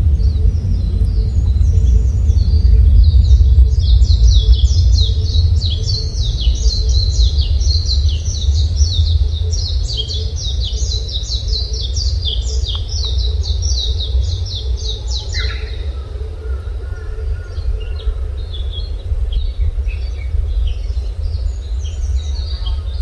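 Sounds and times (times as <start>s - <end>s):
lower bird call: 0.0s - 23.0s
steady low rumble: 0.0s - 23.0s.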